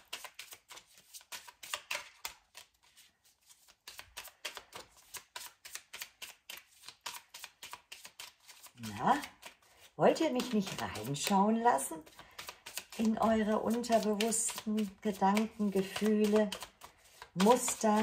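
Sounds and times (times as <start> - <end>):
cards being shuffled: 0.0 - 18.0.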